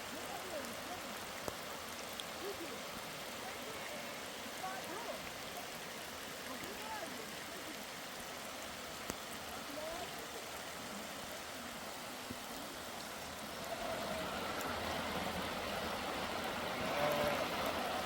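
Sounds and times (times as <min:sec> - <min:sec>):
steady water noise: 0:00.0 - 0:18.0.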